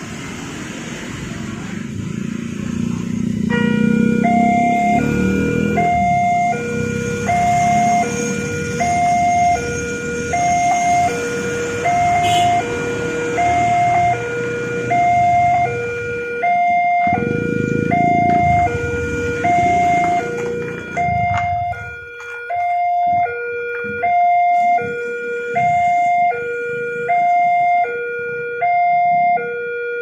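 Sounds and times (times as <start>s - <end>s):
two-tone crossing alarm: 1.9s - 30.0s.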